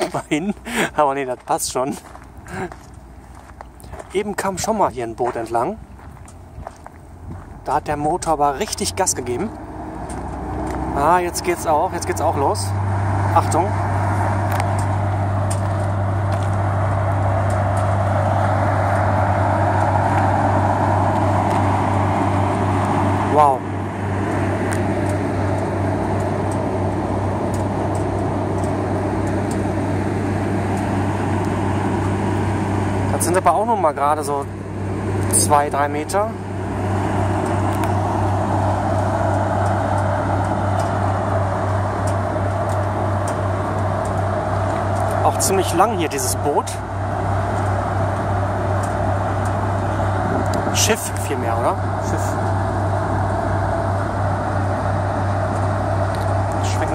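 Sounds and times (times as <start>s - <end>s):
diesel engine deep hum: 0.0s - 56.9s.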